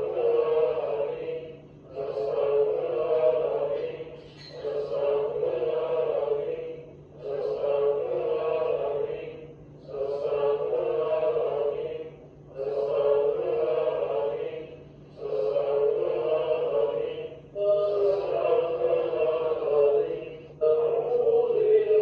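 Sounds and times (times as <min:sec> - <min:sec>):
voices chanting in unison: 0:00.0 - 0:22.0.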